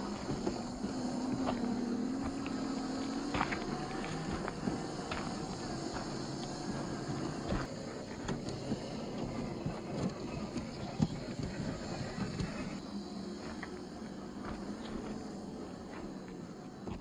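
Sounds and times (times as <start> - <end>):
toy car electric motors running: 0.0 - 17.0
tyres rolling over gravel: 0.0 - 17.0.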